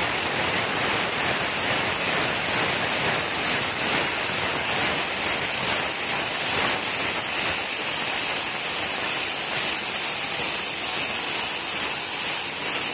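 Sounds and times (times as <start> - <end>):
washing jets spraying: 0.0 - 12.9.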